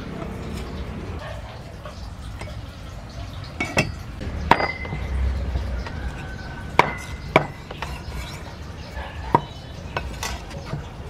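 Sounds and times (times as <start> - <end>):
ceramic bowls clinking: 0.0 - 11.0.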